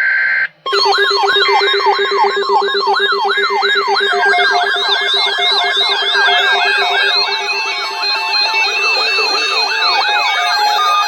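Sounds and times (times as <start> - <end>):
electronic alert siren: 0.7 - 11.0
steady low tone: 0.7 - 11.0.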